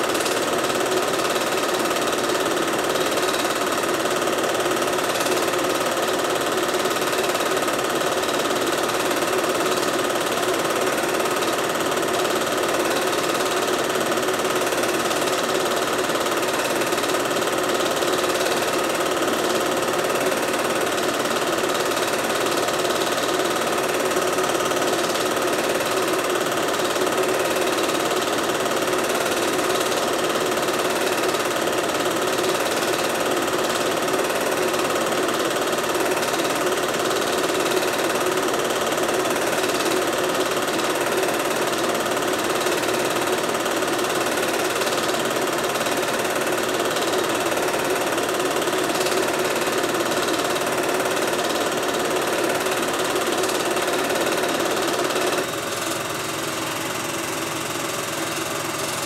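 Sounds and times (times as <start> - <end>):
film projector whirring and clattering: 0.0 - 59.0.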